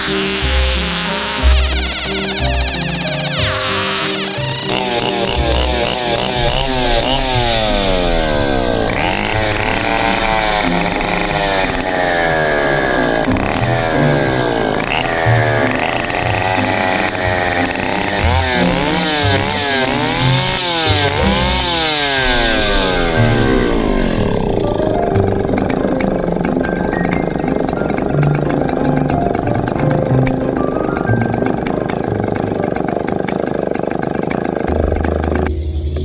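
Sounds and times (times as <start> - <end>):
small engine revving: 0.0 - 36.0.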